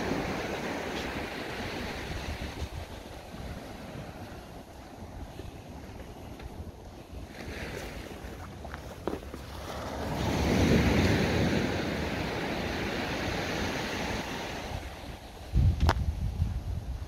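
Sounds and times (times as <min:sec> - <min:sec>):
small waves breaking on shore: 0:00.0 - 0:15.6
wind buffeting microphone: 0:00.0 - 0:17.0.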